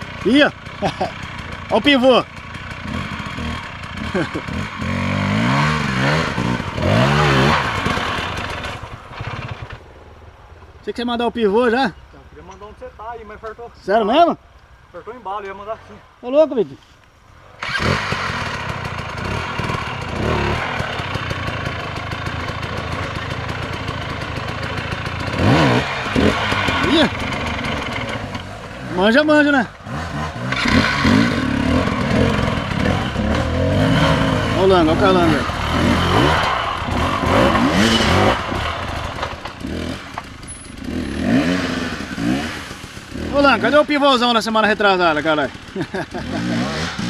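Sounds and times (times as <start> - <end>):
dirt bike engine running: 0.0 - 14.2, 17.6 - 47.0.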